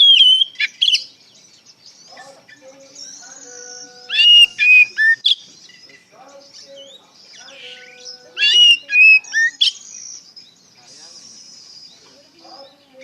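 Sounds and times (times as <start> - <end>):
bird singing whistled notes: 0.0 - 13.0
constant high twittering: 0.0 - 13.0.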